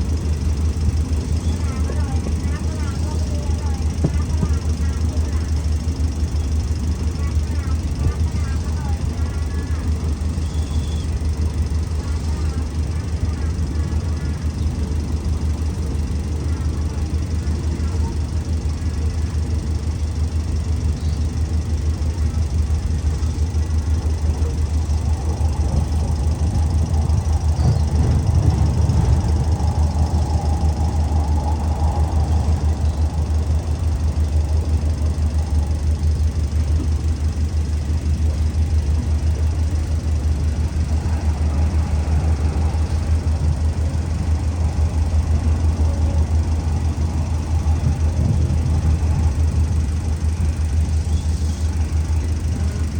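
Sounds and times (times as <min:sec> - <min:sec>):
diesel locomotive idling: 0:00.0 - 0:52.9.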